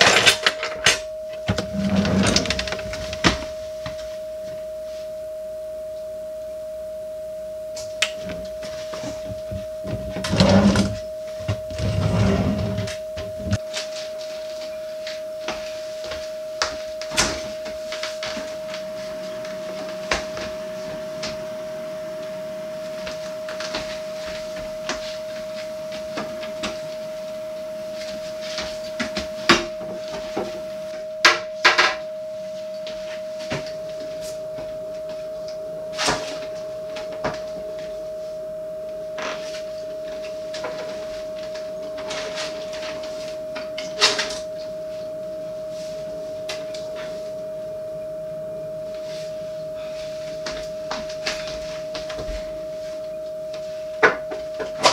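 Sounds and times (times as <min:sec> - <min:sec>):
steady high-pitched tone: 0:00.0 - 0:54.9.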